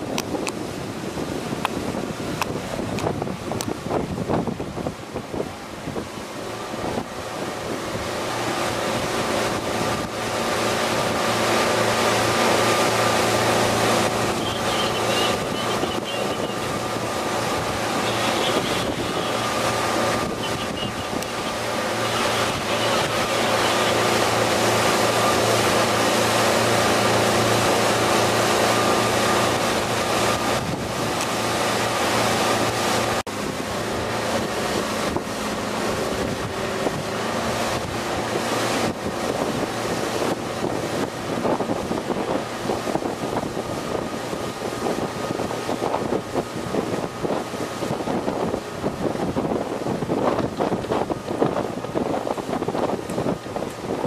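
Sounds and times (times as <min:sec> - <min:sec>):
engine drone: 0:00.0 - 0:54.0
wind on microphone: 0:00.0 - 0:54.0.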